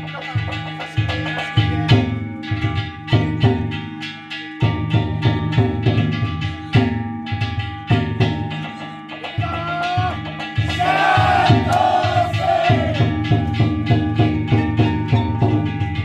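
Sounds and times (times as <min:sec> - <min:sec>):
small metal gongs ringing: 0:00.0 - 0:16.0
taiko drum beating: 0:00.0 - 0:16.0.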